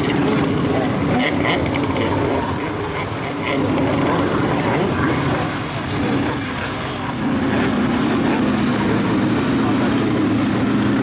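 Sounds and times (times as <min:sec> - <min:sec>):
jet ski engine running hard: 0:00.0 - 0:11.0.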